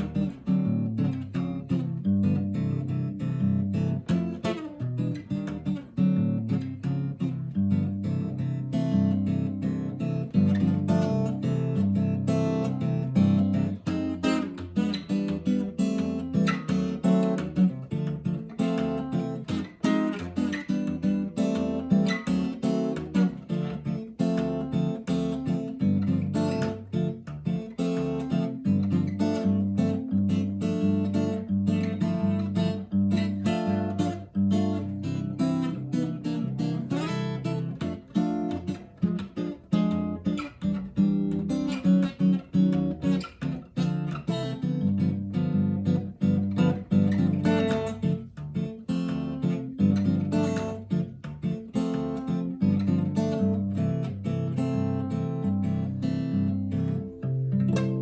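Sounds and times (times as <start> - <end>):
acoustic guitar bossa nova: 0.0 - 58.0.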